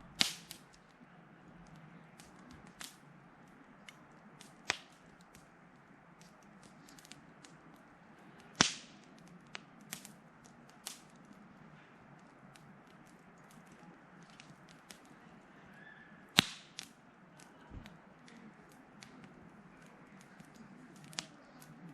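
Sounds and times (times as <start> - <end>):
sharp pops from fire: 0.0 - 21.9
wood fire crackling: 0.0 - 21.9.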